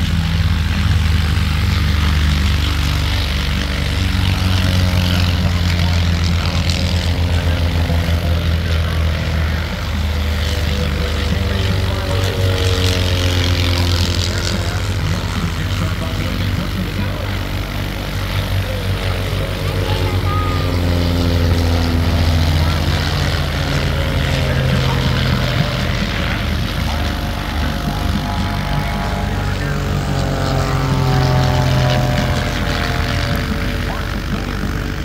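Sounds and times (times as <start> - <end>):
propeller airplane engine drone: 0.0 - 35.0.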